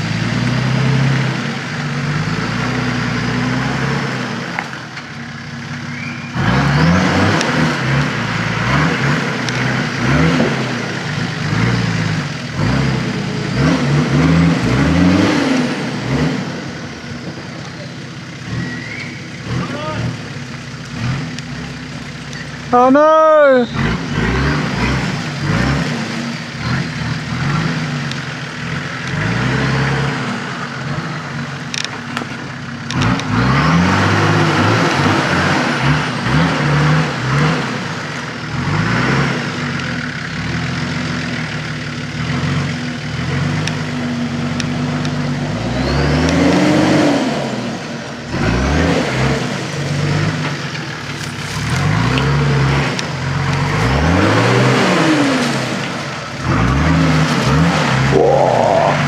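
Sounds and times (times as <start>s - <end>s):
engine revving: 0.0s - 23.0s, 23.6s - 31.9s, 32.9s - 59.0s.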